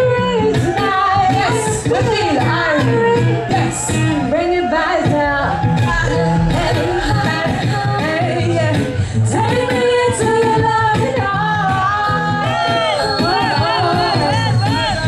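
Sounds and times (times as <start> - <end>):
reggae music with heavy bass: 0.0 - 15.0
woman singing and chanting: 0.0 - 15.0.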